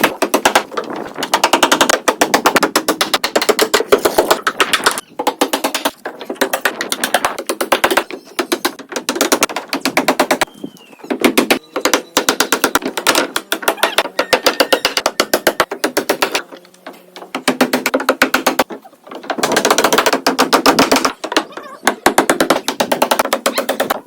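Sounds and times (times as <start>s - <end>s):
rapid sharp clicking knocks: 0.0s - 10.5s, 11.1s - 16.6s, 17.2s - 24.0s.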